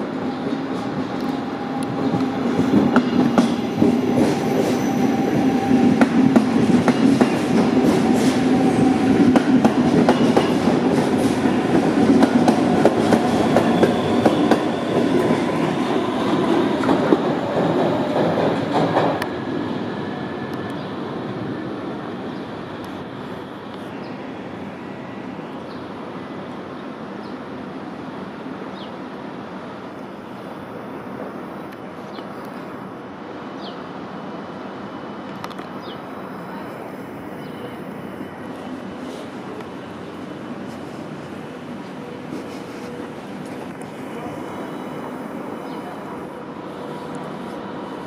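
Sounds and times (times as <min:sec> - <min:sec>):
train whine: 0:00.0 - 0:48.0.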